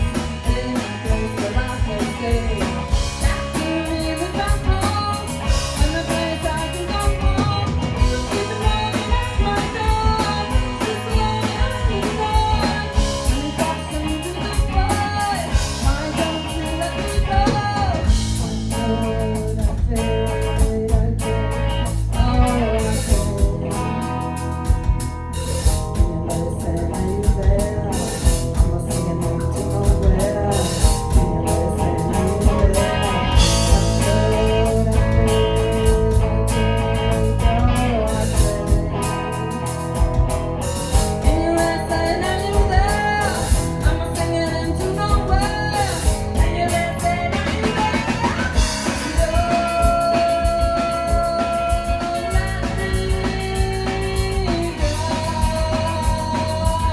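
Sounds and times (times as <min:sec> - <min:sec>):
person singing: 0:00.0 - 0:39.9, 0:40.8 - 0:56.9
bass: 0:00.0 - 0:56.9
drum kit beat: 0:00.0 - 0:56.9
guitar: 0:00.0 - 0:56.9.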